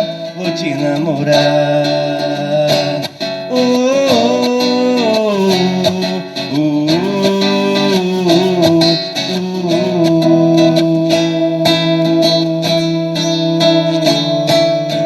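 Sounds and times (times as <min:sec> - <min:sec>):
instrumental music with lead guitar: 0:00.0 - 0:15.0.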